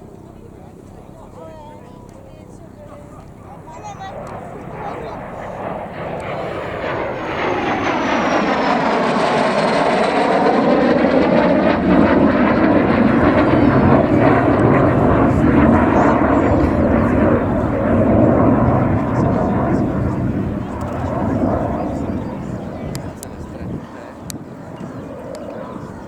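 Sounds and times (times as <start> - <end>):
jet engine passing by: 0.0 - 26.0.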